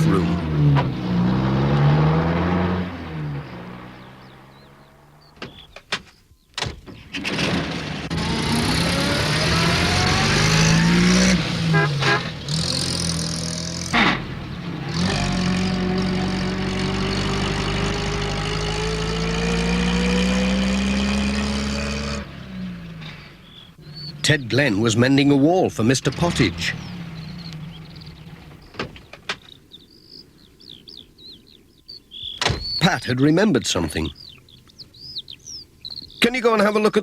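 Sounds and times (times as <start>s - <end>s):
van engine accelerating: 0.0s - 5.8s, 7.0s - 36.3s.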